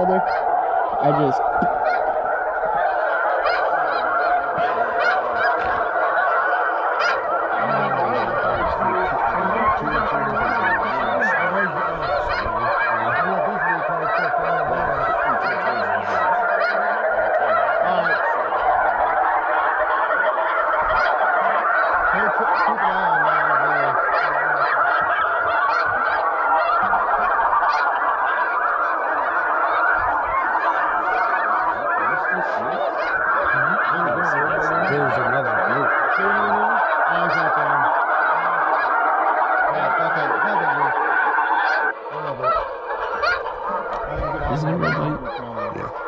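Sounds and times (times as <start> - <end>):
flock of geese honking: 0.0 - 46.0.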